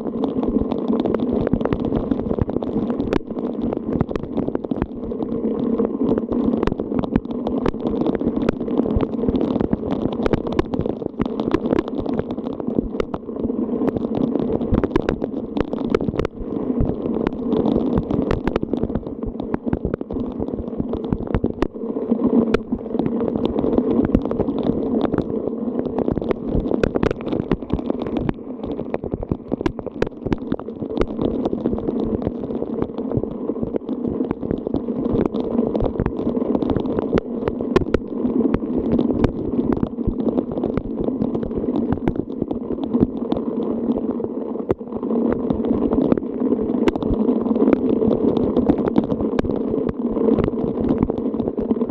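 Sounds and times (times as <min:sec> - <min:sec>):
rain and wind rushing: 0:00.0 - 0:51.9.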